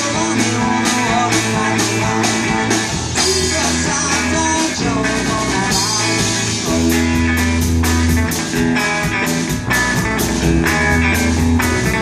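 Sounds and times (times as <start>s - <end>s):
bass guitar notes: 0.0s - 12.0s
guitar: 0.0s - 12.0s
steady drum beat: 0.0s - 12.0s.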